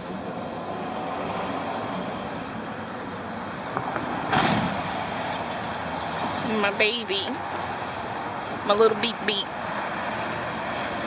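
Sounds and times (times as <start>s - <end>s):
vehicle rumble and hiss: 0.0s - 11.0s.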